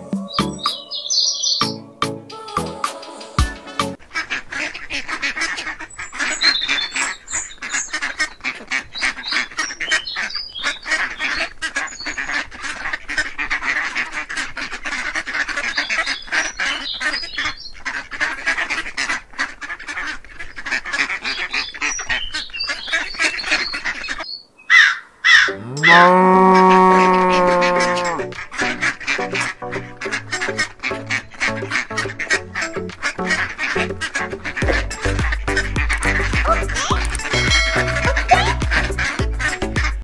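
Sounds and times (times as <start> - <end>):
flock of waterfowl calling: 3.9 - 40.0.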